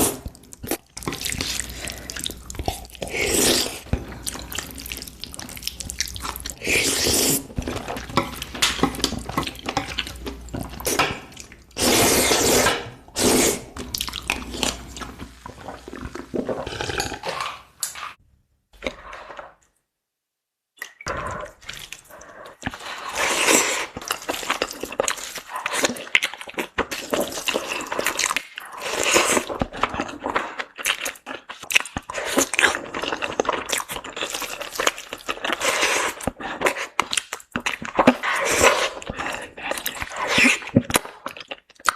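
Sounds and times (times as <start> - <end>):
wet chewing and slurping: 0.0 - 18.2, 20.8 - 41.9.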